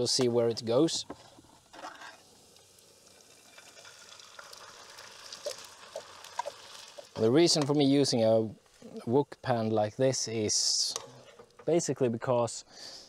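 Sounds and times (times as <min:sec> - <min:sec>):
food sizzling in a pan: 0:00.0 - 0:11.4.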